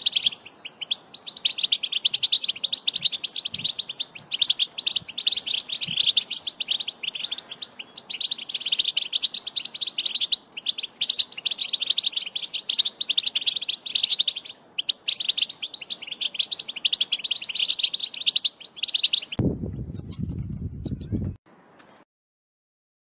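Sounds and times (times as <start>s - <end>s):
goldfinch twittering song: 0.0s - 21.2s.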